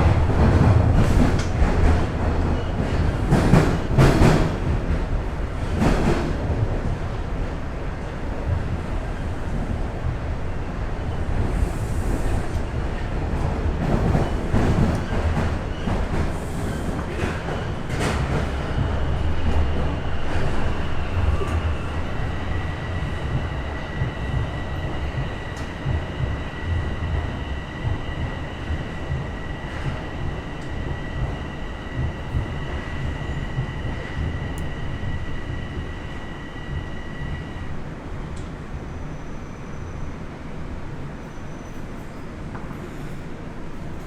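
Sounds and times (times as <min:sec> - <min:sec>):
subway train rumbling: 0:00.0 - 0:44.0.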